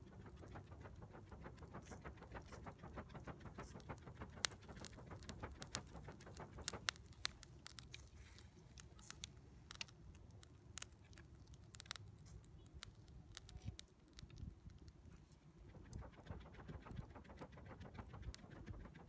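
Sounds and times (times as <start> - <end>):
crackles and pops of hot coals: 0.0 - 19.0.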